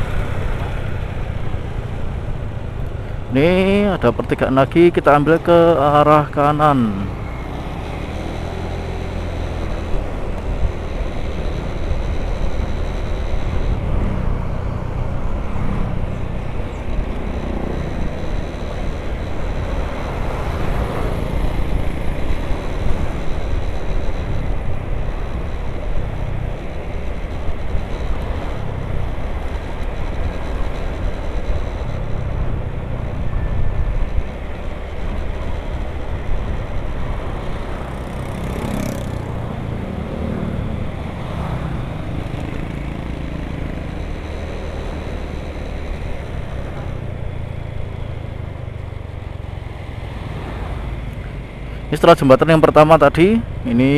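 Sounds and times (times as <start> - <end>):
scooter engine: 0.0 - 53.9.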